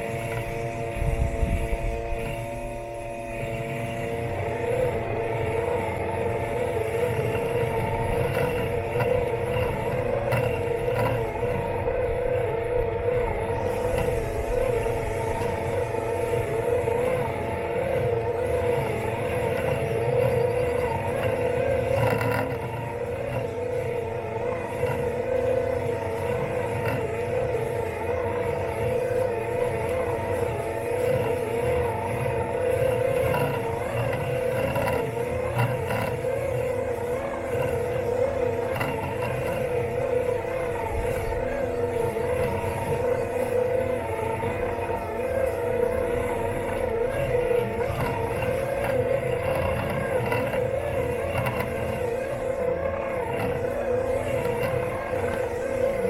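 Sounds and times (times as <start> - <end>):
electric motors whining: 0.0 - 56.0
mower rumbling through grass: 0.0 - 56.0.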